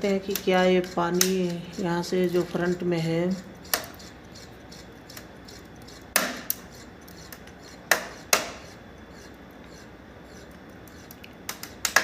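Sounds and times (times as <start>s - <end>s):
air conditioner clicks: 0.0s - 4.1s, 5.0s - 9.0s, 10.5s - 12.0s.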